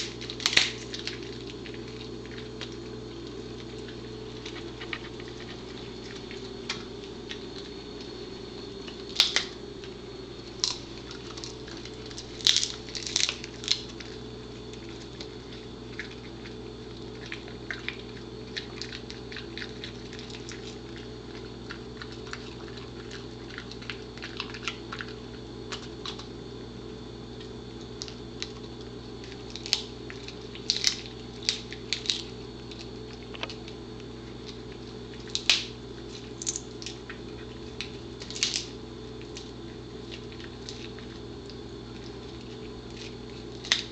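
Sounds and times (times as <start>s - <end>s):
dog chewing crunchy bites: 0.0s - 43.9s
steady low hum: 0.0s - 43.9s.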